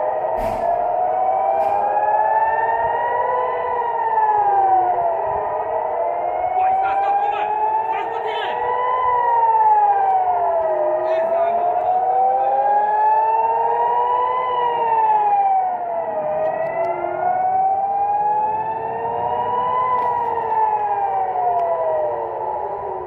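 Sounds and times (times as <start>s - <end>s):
air-raid sirens wailing: 0.0s - 23.0s.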